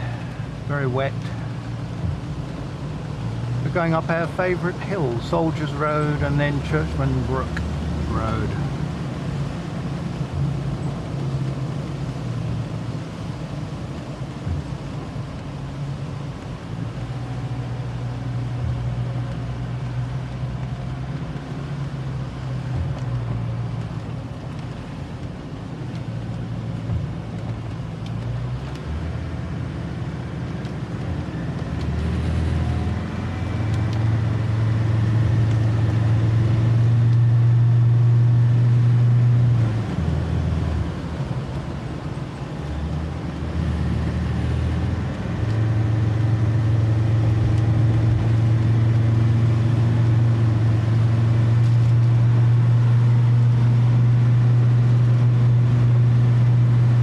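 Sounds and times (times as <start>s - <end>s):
car engine pulling uphill: 0.0s - 57.0s
tyre noise on wet road: 0.0s - 57.0s.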